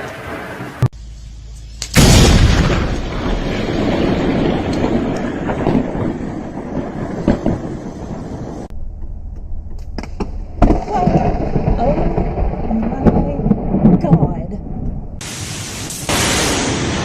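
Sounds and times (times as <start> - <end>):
thunder crack and rumble: 2.0 - 8.8, 10.0 - 17.0.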